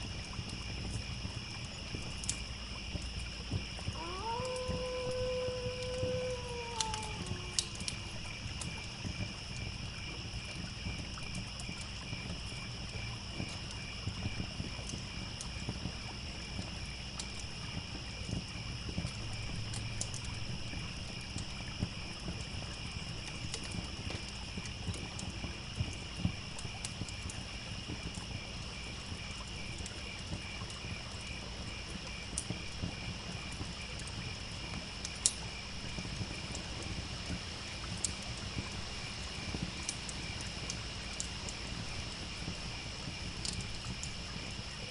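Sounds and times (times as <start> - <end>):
campfire crackling and popping: 0.0 - 44.9
crickets chirping: 0.0 - 44.9.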